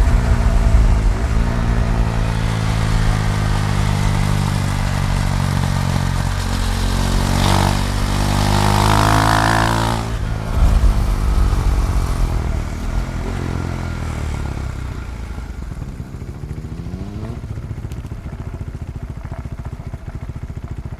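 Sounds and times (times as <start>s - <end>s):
motorcycle engine slowing: 0.0s - 20.9s.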